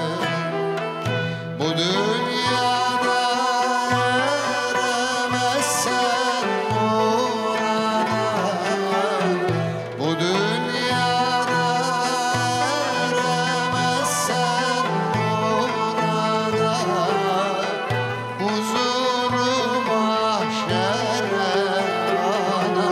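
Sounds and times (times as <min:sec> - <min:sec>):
classical ensemble music: 0:00.0 - 0:22.9
man singing: 0:00.0 - 0:22.9.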